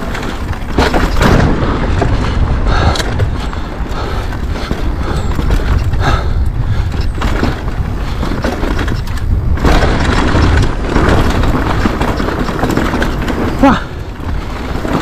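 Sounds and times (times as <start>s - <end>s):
bike knocking and rattling: 0.0s - 15.0s
tyres rolling over dirt and rock: 0.0s - 15.0s
wind buffeting microphone: 0.0s - 15.0s.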